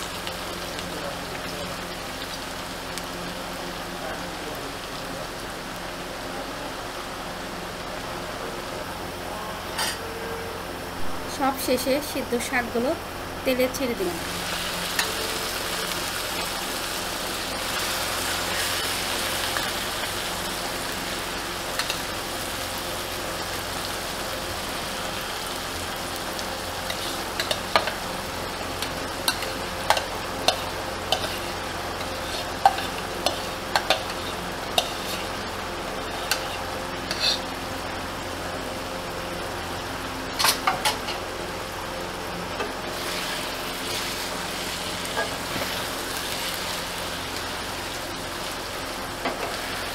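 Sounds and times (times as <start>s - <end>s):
leaves sizzling in hot oil: 0.0s - 49.9s.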